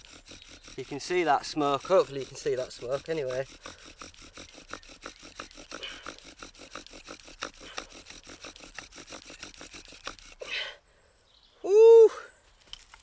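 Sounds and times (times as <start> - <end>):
wooden spindle rasping and squeaking: 0.0 - 10.5.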